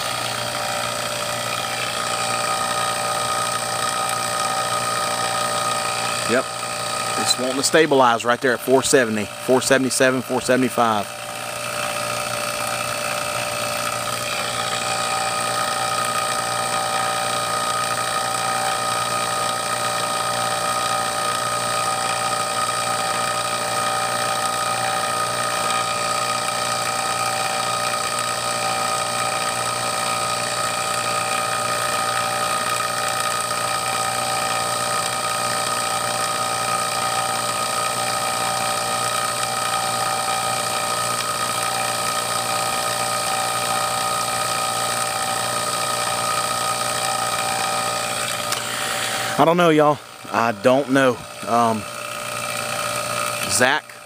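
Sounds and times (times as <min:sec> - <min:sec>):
vacuum pump drone: 0:00.0 - 0:54.0.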